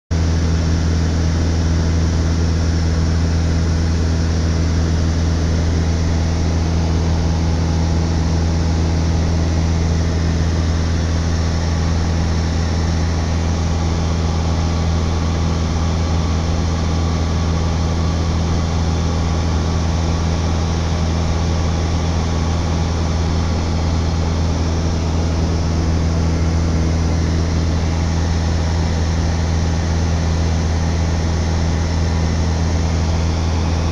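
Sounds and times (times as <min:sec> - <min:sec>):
propeller plane engine drone: 0:00.1 - 0:33.9.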